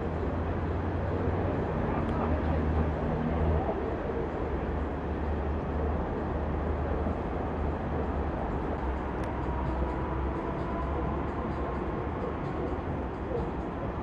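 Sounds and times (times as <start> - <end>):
low rumble and hiss outdoors: 0.0 - 14.0.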